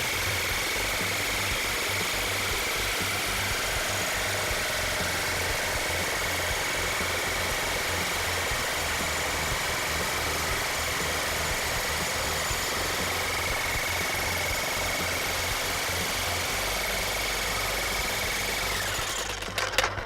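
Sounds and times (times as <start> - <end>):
jackhammer hammering: 0.0 - 20.0.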